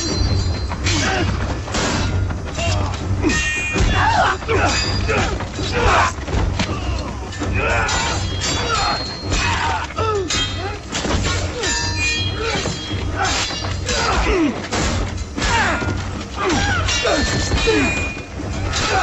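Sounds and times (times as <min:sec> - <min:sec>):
orchestral score: 0:00.0 - 0:19.0
sharp impacts and clashes: 0:00.0 - 0:19.0.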